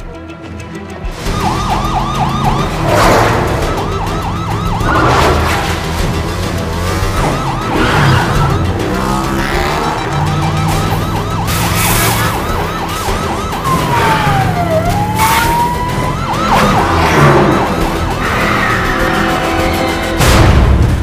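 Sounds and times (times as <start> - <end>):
police siren yelping: 1.2 - 20.0.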